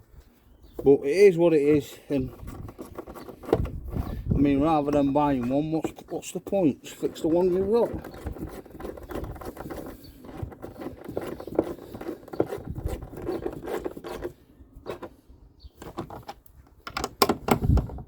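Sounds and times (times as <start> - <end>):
plastic rustling and scraping: 0.1 - 18.0.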